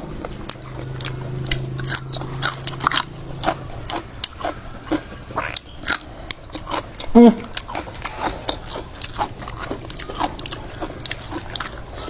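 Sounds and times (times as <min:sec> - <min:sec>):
low steady hum: 0:00.0 - 0:12.0
person chewing crunchy food: 0:00.0 - 0:12.0.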